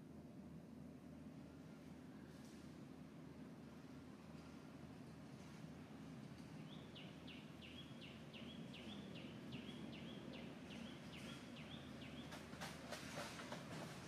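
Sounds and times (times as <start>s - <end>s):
faint low outdoor noise: 0.0s - 14.0s.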